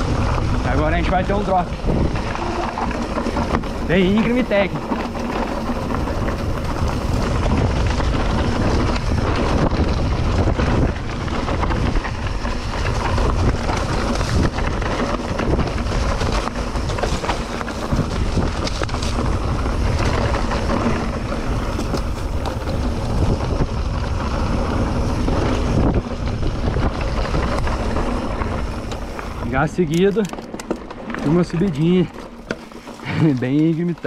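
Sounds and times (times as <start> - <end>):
bike rattling and knocking: 0.0 - 34.0
bike tyres rolling on dirt: 0.0 - 34.0
wind rushing over microphone: 0.0 - 34.0.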